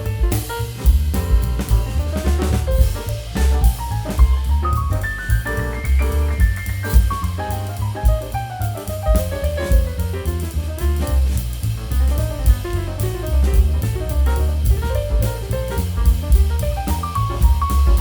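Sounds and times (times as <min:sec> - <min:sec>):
upbeat jazz tune: 0:00.0 - 0:18.0.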